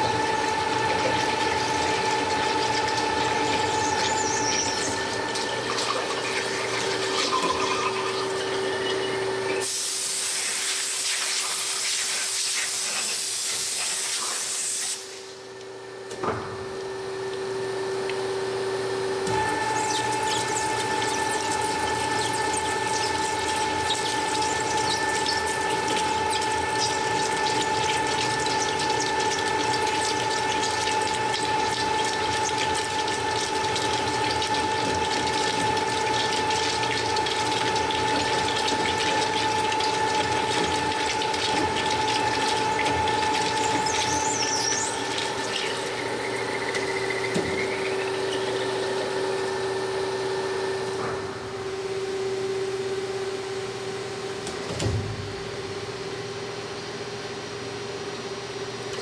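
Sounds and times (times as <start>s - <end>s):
cnc machine whine: 0.0s - 9.8s, 15.4s - 37.0s, 37.8s - 54.4s.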